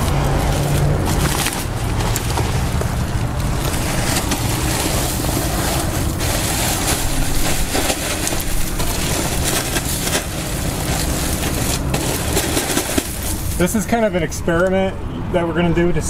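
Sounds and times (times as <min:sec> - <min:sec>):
mulch pouring onto ground: 0:00.0 - 0:13.9
plastic bag crinkling: 0:00.0 - 0:13.9.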